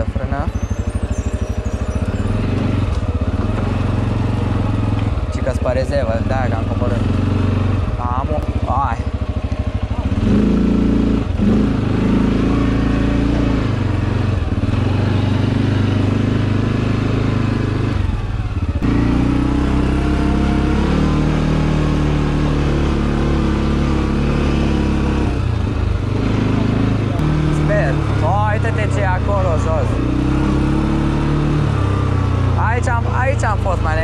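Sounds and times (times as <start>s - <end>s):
quad bike engine revving: 0.0s - 34.0s.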